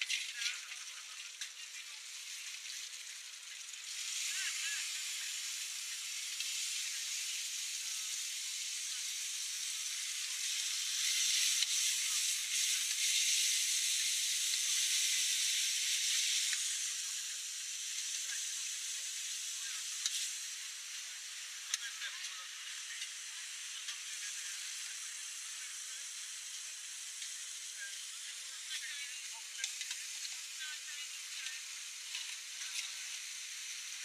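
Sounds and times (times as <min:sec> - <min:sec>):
beef sizzling in a wok: 0:00.0 - 0:34.0.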